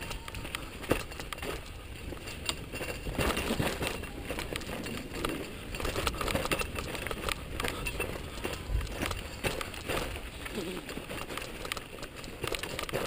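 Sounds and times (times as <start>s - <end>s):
bike clicking and rattling: 0.0s - 13.0s
bike tyres crunching on gravel: 0.0s - 13.0s.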